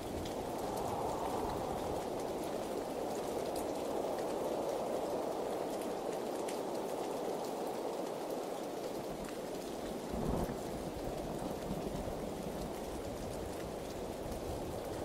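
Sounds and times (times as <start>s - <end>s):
raindrops ticking: 0.0s - 15.0s
steady rainfall: 0.0s - 15.0s.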